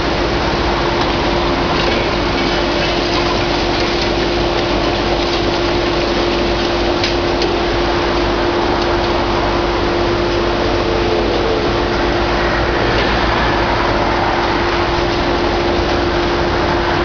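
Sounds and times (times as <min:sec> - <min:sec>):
excavator engine whining: 0:00.0 - 0:17.0.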